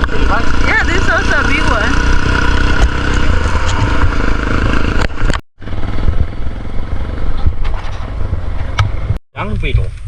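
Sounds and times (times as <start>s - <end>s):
motorcycle engine running: 0.0s - 9.2s
wind buffeting microphone: 0.0s - 9.2s.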